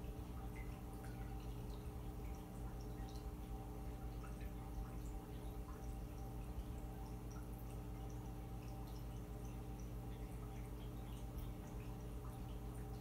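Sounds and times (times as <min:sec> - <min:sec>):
aquarium air pump hum: 0:00.0 - 0:13.0.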